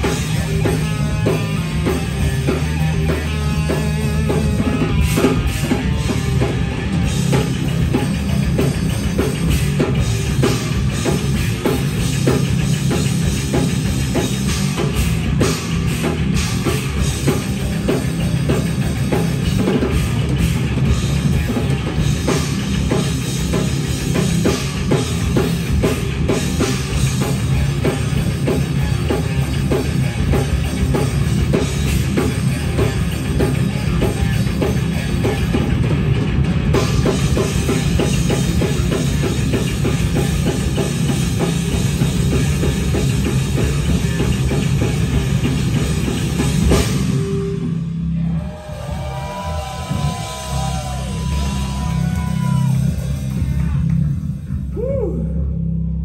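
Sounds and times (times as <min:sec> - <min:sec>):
fast drumming: 0:00.0 - 0:47.8
distorted electric guitars: 0:00.0 - 0:56.0.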